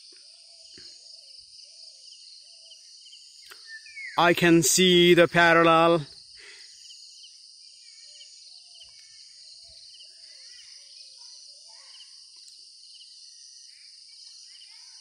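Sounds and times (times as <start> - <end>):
birds calling and chirping: 0.0 - 15.0
forest insects droning: 0.0 - 15.0.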